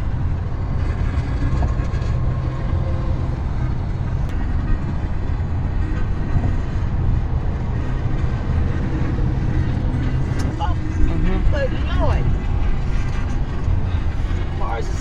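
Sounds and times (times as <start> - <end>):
road noise inside vehicle: 0.0 - 15.0
vehicle engine rumble: 0.0 - 15.0.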